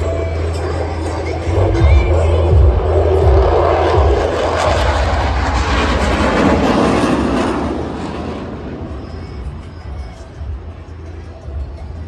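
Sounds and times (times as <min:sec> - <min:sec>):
aircraft engine rumbling: 0:00.0 - 0:12.0.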